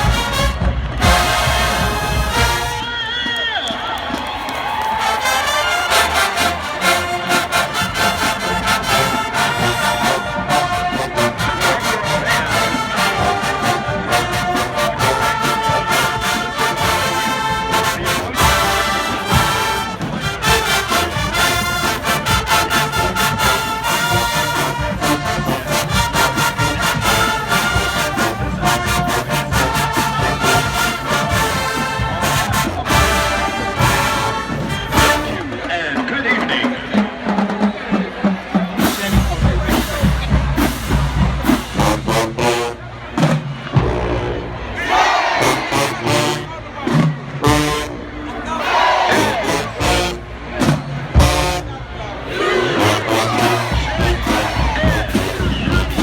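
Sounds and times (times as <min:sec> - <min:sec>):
steady drum beat: 0:00.0 - 0:03.0, 0:05.0 - 0:36.2, 0:36.8 - 0:44.1, 0:49.0 - 0:56.0
marching band playing: 0:00.0 - 0:56.0.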